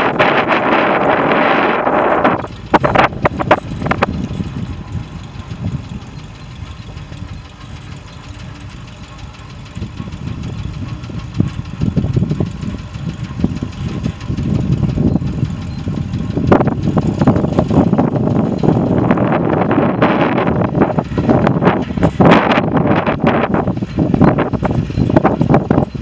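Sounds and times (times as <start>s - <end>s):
truck engine idling: 0.0s - 26.0s
wind gusting on microphone: 0.0s - 26.0s.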